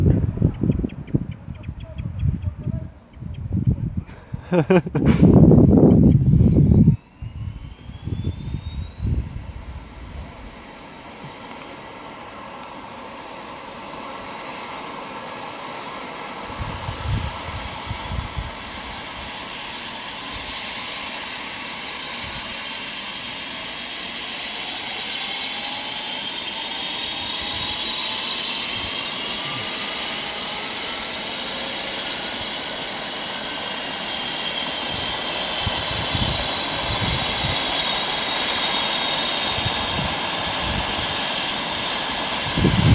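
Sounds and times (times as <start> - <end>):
helicopter turbine whine: 0.0 - 42.9.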